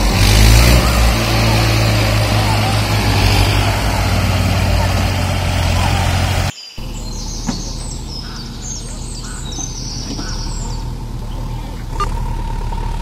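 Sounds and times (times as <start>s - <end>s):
small birds chirping: 0.0s - 12.4s
engine humming: 0.0s - 13.0s.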